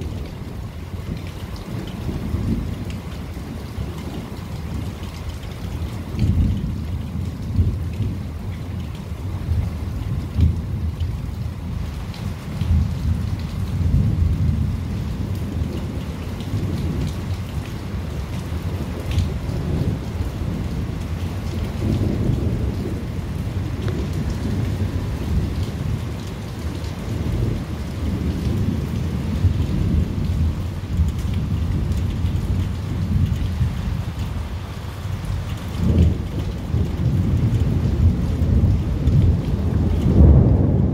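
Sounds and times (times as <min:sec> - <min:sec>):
low rolling thunder: 0:00.0 - 0:40.9
steady rain: 0:00.0 - 0:40.9.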